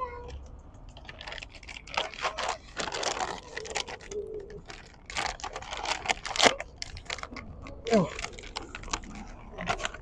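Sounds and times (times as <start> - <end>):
plastic bag crinkling: 1.0 - 10.0.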